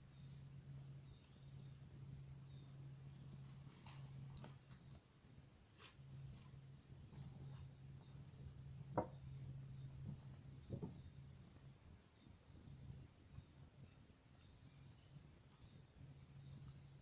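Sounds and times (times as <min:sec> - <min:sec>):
low steady hum: 0:00.0 - 0:17.0
wood fire crackling: 0:00.0 - 0:17.0.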